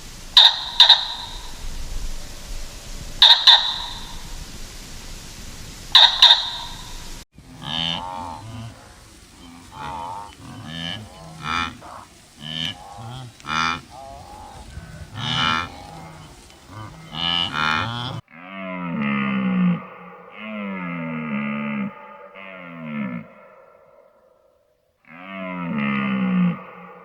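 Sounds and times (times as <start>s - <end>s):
long drawn-out animal call: 0.0s - 4.6s, 5.9s - 27.0s
short pitched animal calls: 0.0s - 4.6s, 5.9s - 27.0s.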